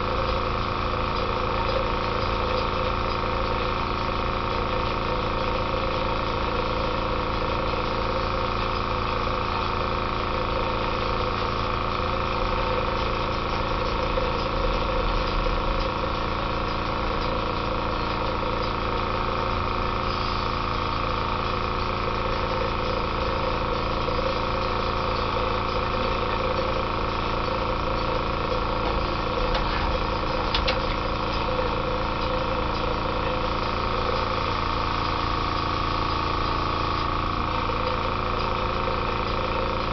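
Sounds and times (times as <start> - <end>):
compressor motor hum: 0.0 - 39.9.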